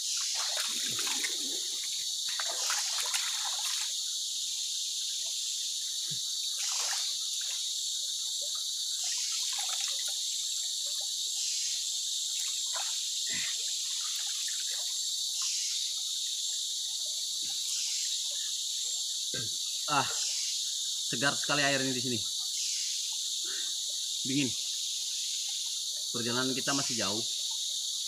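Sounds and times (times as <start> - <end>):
high-pitched insect chorus: 0.0 - 28.0
water splashing and trickling: 0.0 - 28.0.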